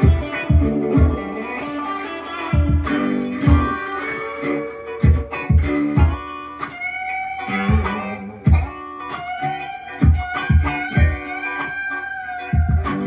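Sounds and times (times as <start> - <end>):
electric guitar with bent notes: 0.0 - 13.0
steady drum beat: 0.0 - 13.0.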